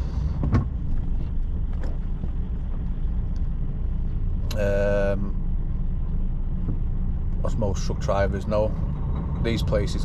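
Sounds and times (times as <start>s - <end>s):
diesel engine rumbling: 0.0s - 10.0s.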